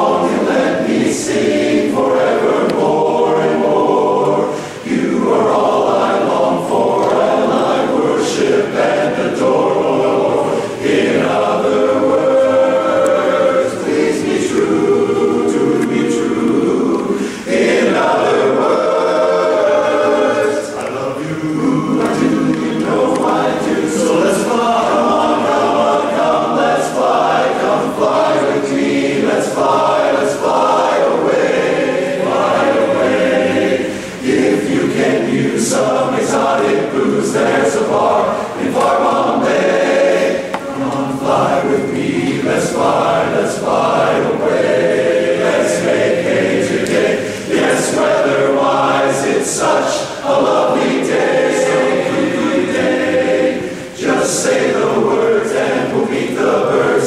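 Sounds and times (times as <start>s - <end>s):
men's chorus singing a cappella: 0.0s - 57.0s.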